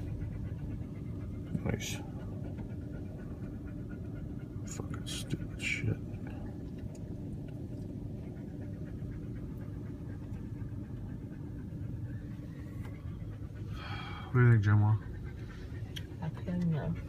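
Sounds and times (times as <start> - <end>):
engine running low rumble: 0.0 - 17.0.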